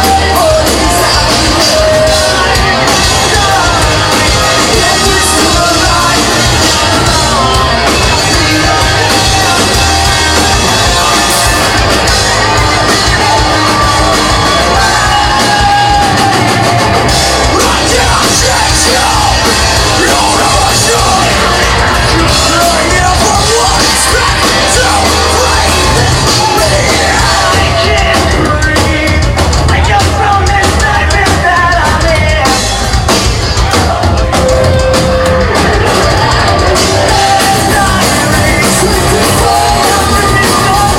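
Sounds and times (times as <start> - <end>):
bass guitar: 0.0 - 40.9
distorted guitars: 0.0 - 40.9
drums: 0.0 - 40.9
person singing and yelling: 0.0 - 40.9.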